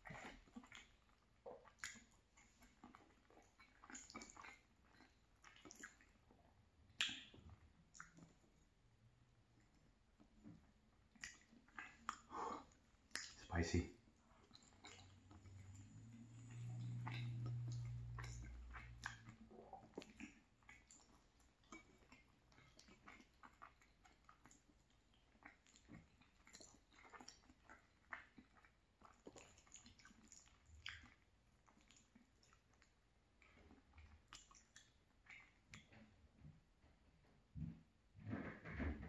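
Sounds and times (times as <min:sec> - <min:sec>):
faint wet chewing: 0:00.0 - 0:36.5.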